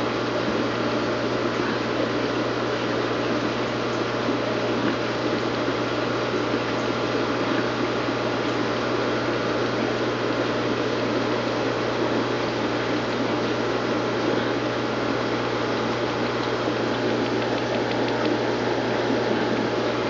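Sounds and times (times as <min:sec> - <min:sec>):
aquarium pump humming: 0:00.0 - 0:20.0.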